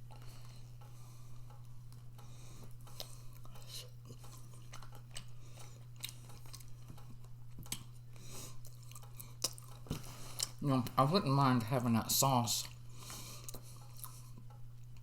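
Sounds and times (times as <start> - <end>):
person chewing food: 0.0 - 11.1, 12.5 - 15.0
steady low hum: 0.0 - 15.0.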